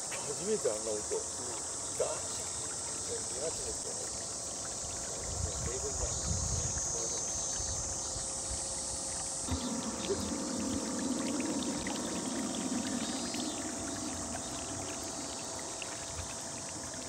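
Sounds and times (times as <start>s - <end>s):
model boat water wash: 0.0s - 17.0s
steady high hiss: 0.0s - 17.0s.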